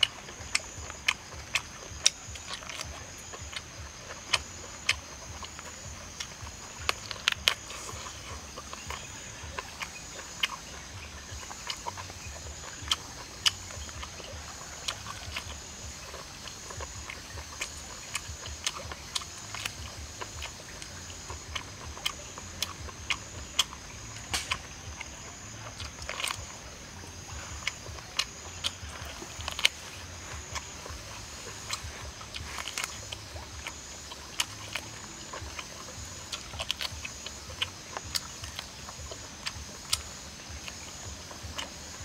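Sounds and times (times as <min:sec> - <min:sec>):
insects droning: 0:00.0 - 0:42.0
wet chewing and lip-smacking: 0:00.0 - 0:42.0.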